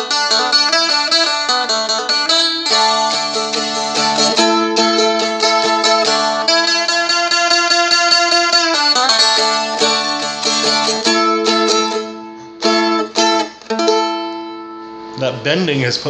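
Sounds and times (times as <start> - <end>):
dulcimer picked melody: 0.0 - 15.3.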